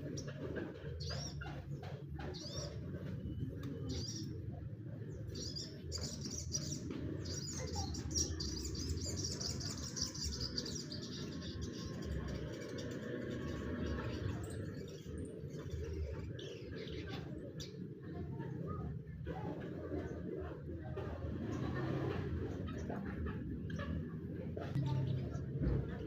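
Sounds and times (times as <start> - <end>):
songbirds chirping and twittering: 0.0 - 26.0.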